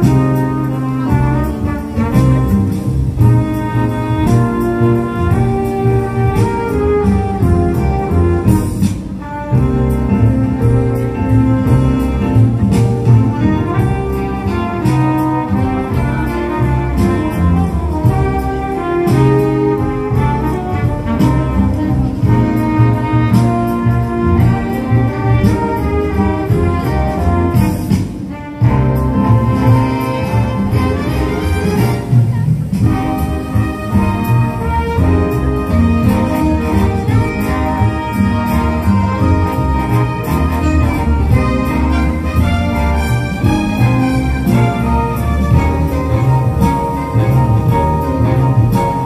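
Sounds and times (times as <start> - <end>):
brass christmas music: 0.0 - 49.0.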